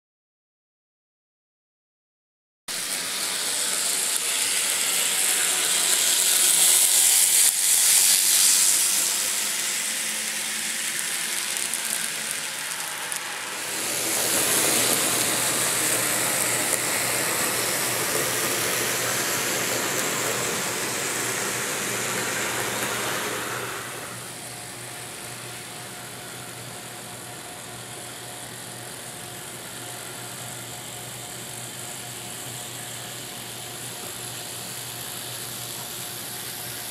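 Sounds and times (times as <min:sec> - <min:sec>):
model train whirring and rattling: 0:02.7 - 0:36.9.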